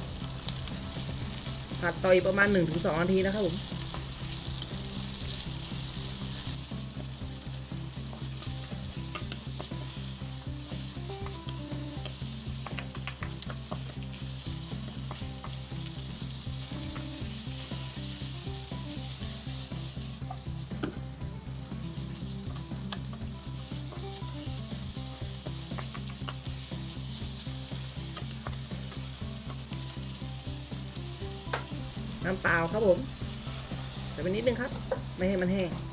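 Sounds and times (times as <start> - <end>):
food sizzling in a pan: 0.0 - 35.9.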